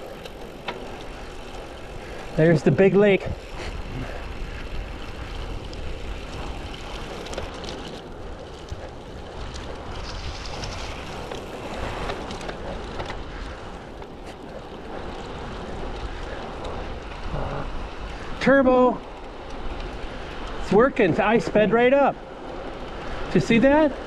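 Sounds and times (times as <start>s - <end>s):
bike tyres hissing on pavement: 0.0s - 24.0s
wind rushing over microphone: 0.0s - 24.0s.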